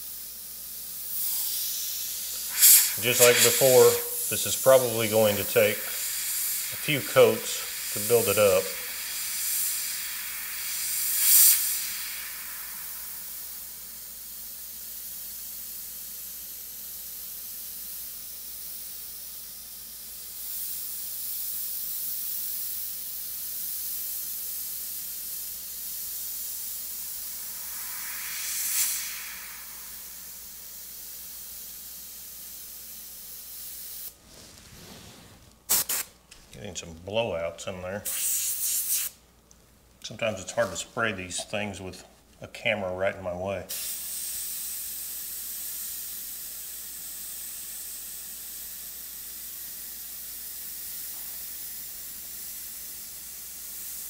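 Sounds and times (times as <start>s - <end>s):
airbrush hissing: 0.0s - 36.1s, 38.0s - 39.2s, 43.7s - 54.0s.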